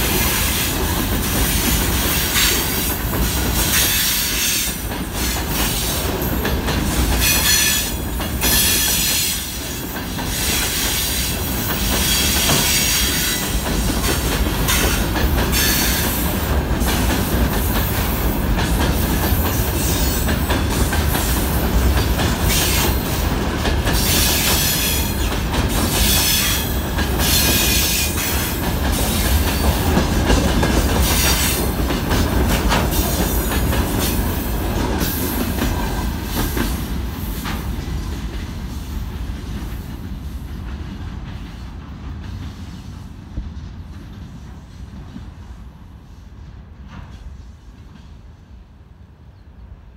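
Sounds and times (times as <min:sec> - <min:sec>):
rumble of wheels on rails: 0:00.0 - 0:49.9.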